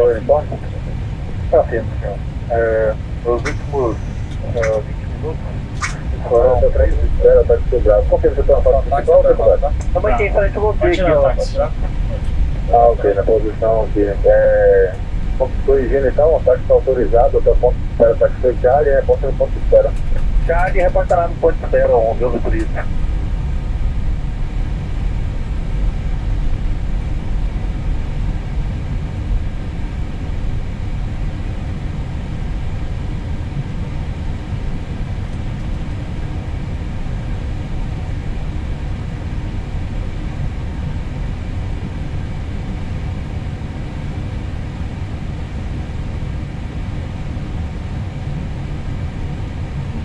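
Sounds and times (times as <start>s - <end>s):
aircraft engines running: 0.0s - 50.0s
faint steady tones: 0.0s - 50.0s.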